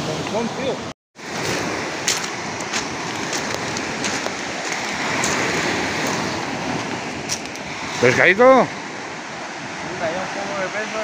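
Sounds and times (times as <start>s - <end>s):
surf washing over pebbles: 0.0s - 11.0s.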